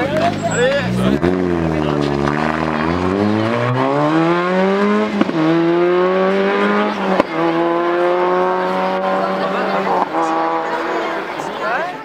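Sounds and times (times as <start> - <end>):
rally car engine accelerating: 0.0 - 11.8.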